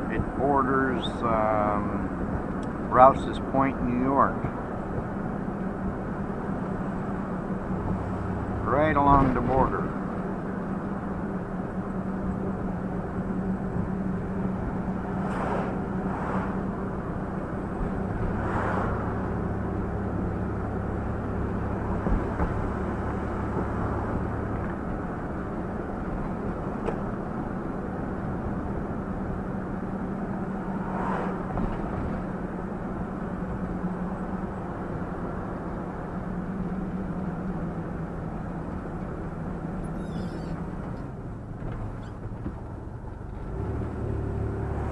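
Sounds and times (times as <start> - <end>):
vehicle engine hum: 0.0 - 44.9.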